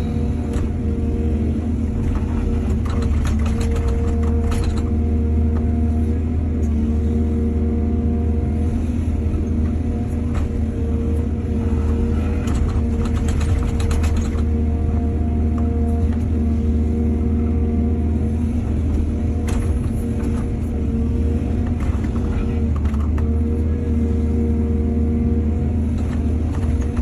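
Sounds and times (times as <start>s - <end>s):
diesel excavator engine running: 0.0s - 27.0s.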